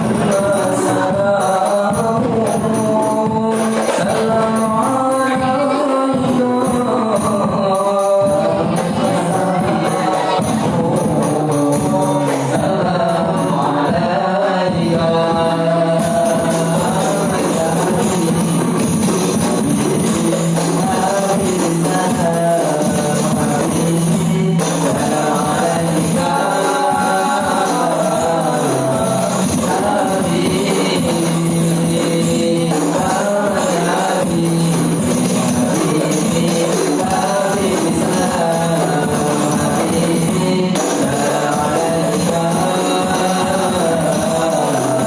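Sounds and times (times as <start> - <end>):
frame drums rhythm: 0.0 - 45.0
voices singing: 0.0 - 45.0.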